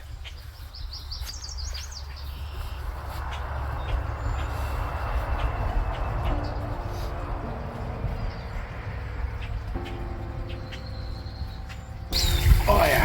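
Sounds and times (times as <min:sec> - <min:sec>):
bird chirping trill: 0:00.3 - 0:13.0
vehicle engine rumble: 0:00.6 - 0:13.0.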